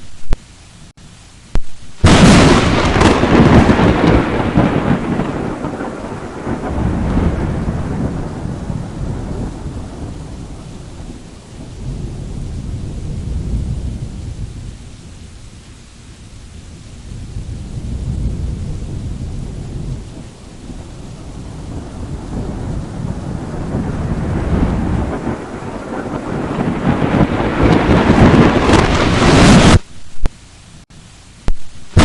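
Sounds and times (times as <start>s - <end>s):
rain falling: 0.0s - 32.0s
thunderclap: 1.5s - 14.8s, 17.0s - 30.3s, 31.4s - 32.0s
rolling thunder rumble: 1.5s - 29.9s.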